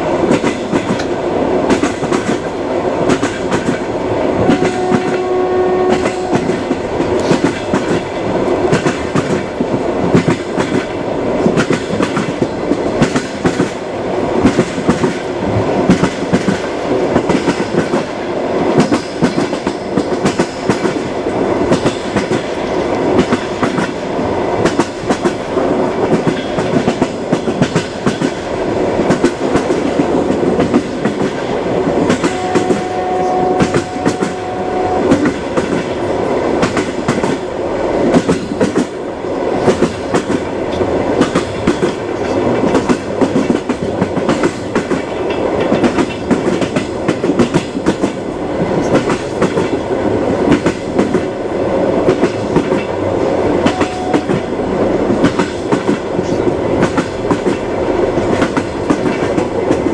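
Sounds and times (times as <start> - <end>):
train wheels clicking on rails: 0.0 - 59.9.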